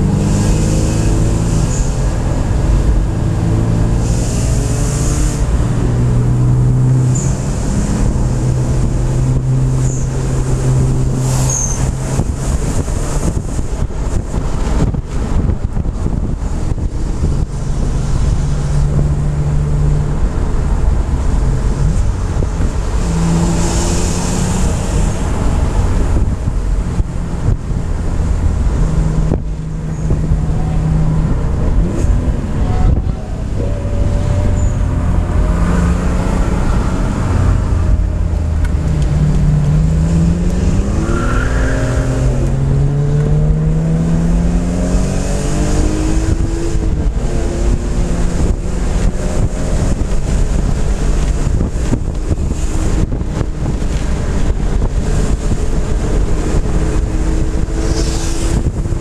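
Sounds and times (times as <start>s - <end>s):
tyre and wind noise: 0.0s - 59.0s.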